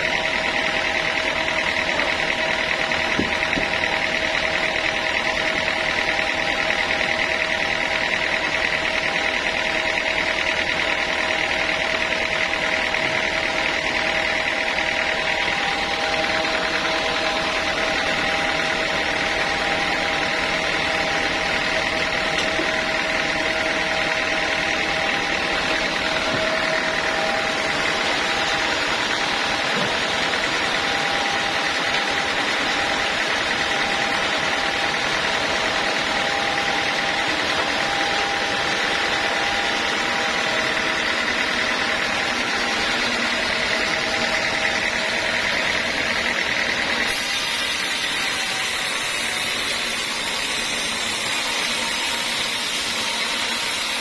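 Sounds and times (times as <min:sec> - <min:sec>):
circular saw machinery whining: 0:00.0 - 0:54.0.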